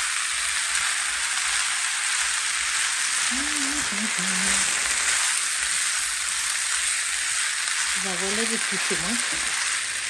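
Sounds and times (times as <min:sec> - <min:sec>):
food sizzling in a skillet: 0:00.0 - 0:10.0
spatula stirring food: 0:00.1 - 0:10.0.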